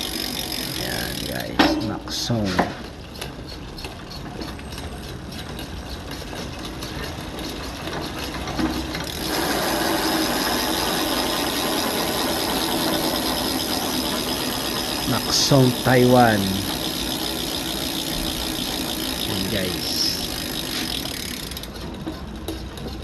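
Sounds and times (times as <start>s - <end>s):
bicycle freewheel clicking: 0.0s - 23.0s.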